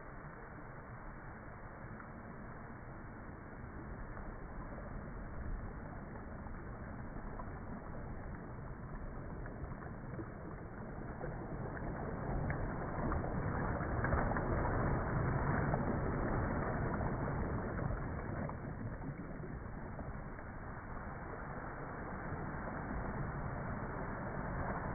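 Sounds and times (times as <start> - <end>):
surf washing in: 0.0 - 24.9.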